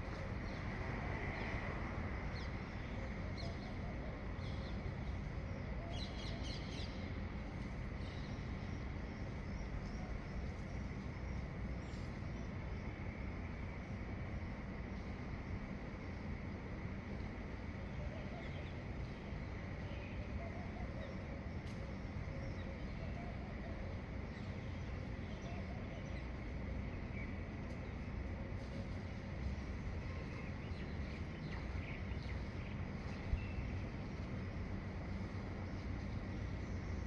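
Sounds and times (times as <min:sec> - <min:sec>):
low rumble and hiss: 0:00.0 - 0:37.0.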